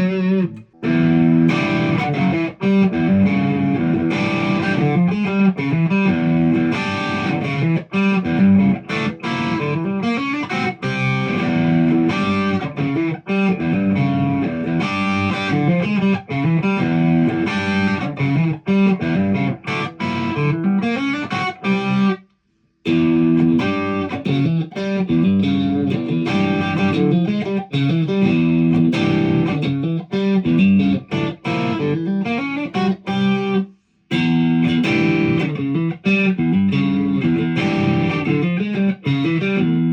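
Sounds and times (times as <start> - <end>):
electric guitar playing: 0.0 - 22.2, 22.9 - 39.9.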